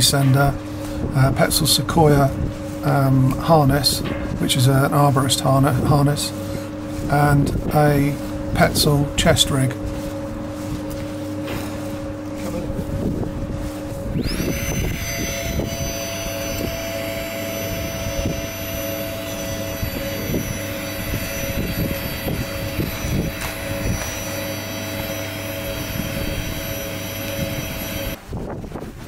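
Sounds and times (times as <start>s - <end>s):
wind turbine hum and whine: 0.0s - 29.0s.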